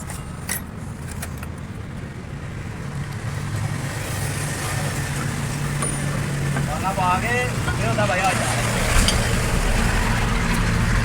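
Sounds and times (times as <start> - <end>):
truck engine droning: 0.2 - 11.0.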